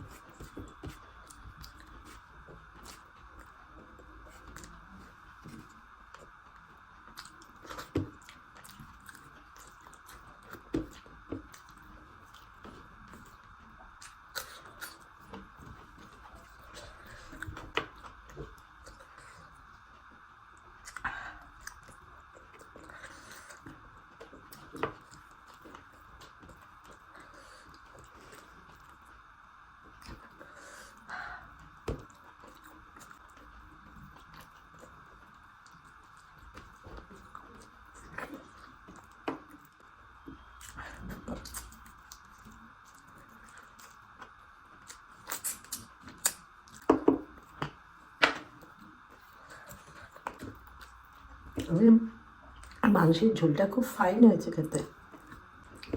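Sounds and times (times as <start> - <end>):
person chewing food: 0.0 - 51.8, 55.0 - 55.9.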